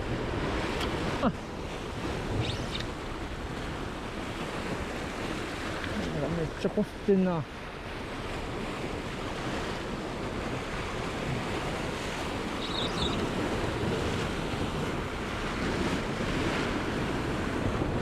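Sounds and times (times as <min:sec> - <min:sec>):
waves washing against rocks: 0:00.0 - 0:18.0
wind buffeting microphone: 0:00.0 - 0:18.0.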